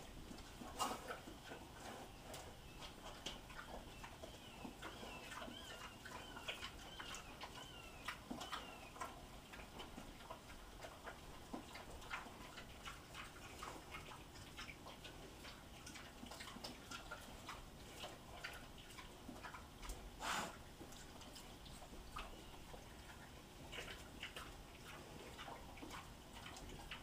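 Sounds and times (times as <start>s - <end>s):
pigs chewing and smacking: 0.0s - 27.0s.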